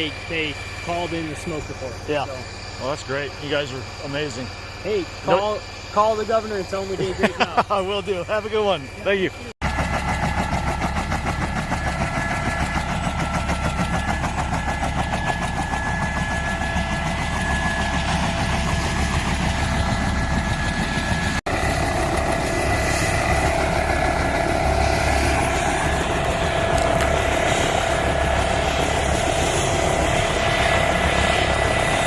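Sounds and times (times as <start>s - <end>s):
engine running with fast pulsing: 0.0s - 32.0s.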